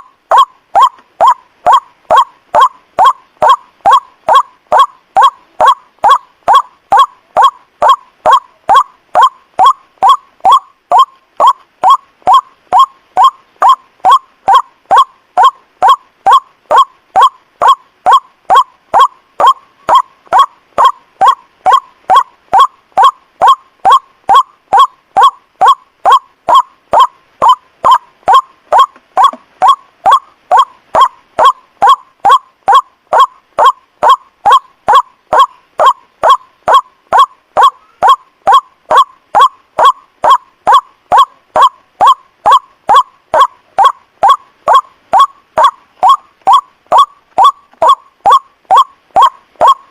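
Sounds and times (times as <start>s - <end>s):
waterhen honking calls: 0.0s - 49.9s.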